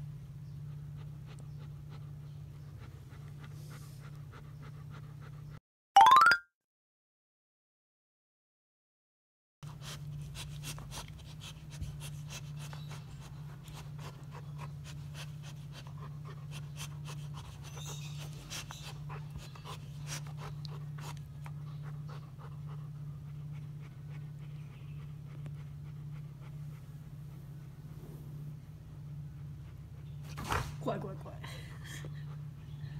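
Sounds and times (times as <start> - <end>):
dog panting: 0.4 - 5.6, 9.7 - 32.9.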